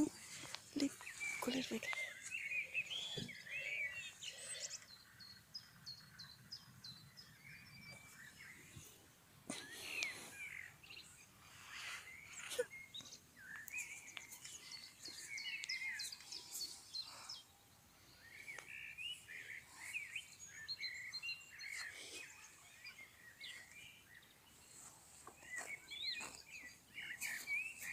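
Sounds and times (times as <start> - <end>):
songbirds chirping and warbling: 0.0 - 27.9.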